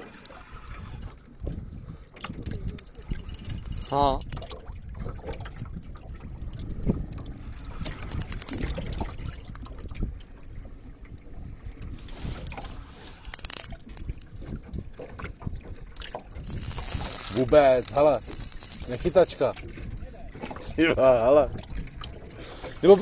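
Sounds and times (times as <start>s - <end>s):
knocks and rustling in boat: 0.0s - 23.0s
wind buffeting microphone: 0.6s - 12.9s, 13.7s - 23.0s.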